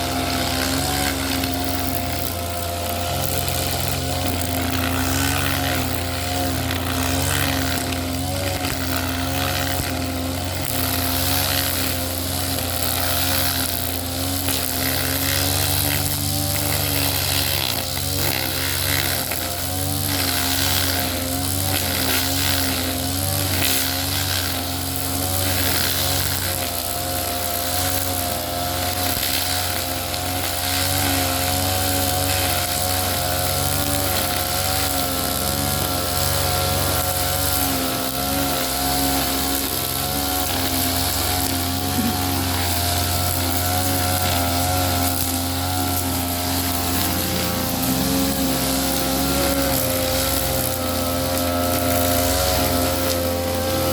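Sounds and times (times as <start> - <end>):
small engine running at high revs: 0.0 - 53.9.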